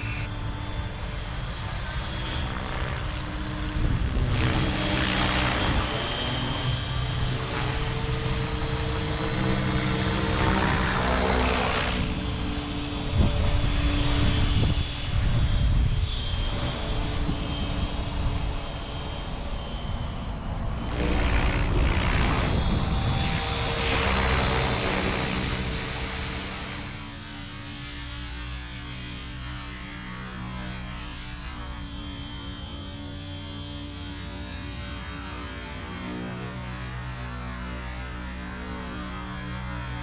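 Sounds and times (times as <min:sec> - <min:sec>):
helicopter motor whine: 0:00.0 - 0:40.0.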